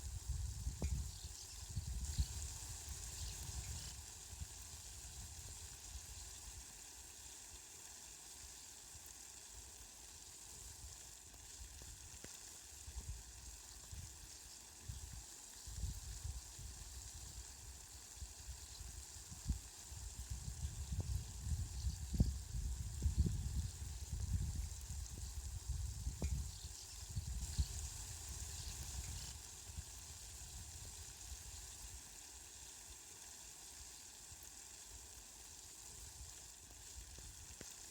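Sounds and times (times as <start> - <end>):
steady rain hiss: 0.0 - 37.9.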